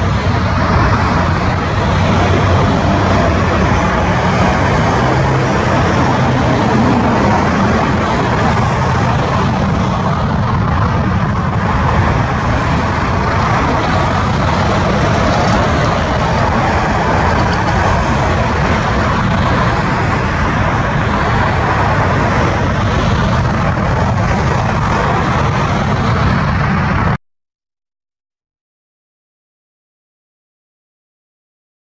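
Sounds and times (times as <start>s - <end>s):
jet engines rumbling: 0.0s - 27.2s.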